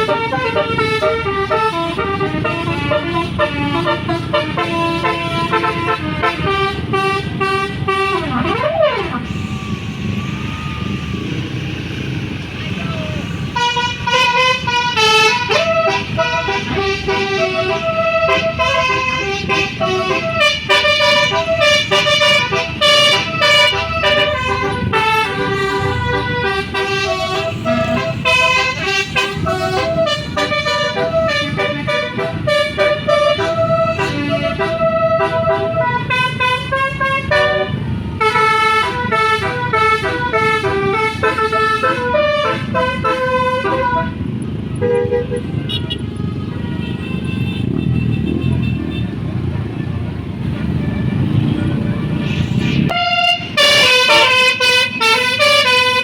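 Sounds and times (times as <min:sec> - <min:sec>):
multi-tone air horn melody: 0:00.0 - 0:11.0, 0:13.4 - 0:49.0, 0:52.2 - 0:56.0.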